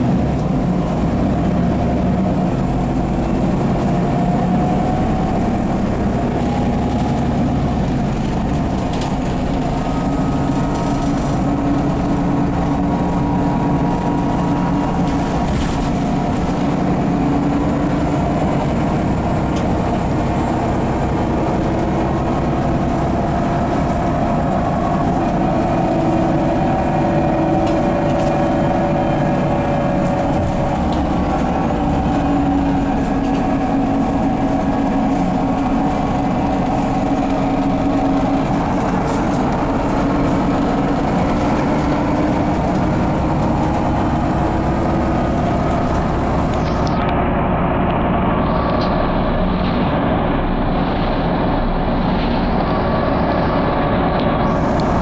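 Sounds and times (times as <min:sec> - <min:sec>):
bus engine drone with whining: 0:00.0 - 0:55.0.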